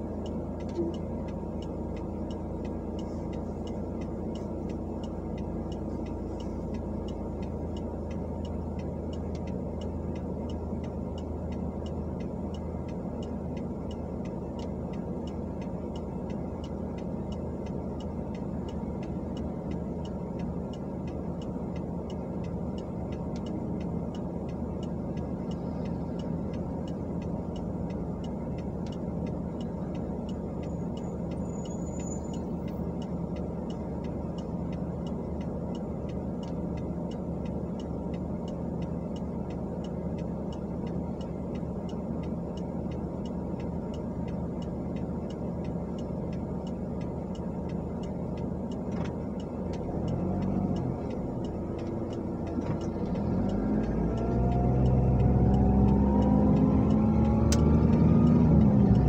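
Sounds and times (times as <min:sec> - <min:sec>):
car idling hum: 0:00.0 - 0:59.0
turn signal ticking: 0:00.0 - 0:59.0.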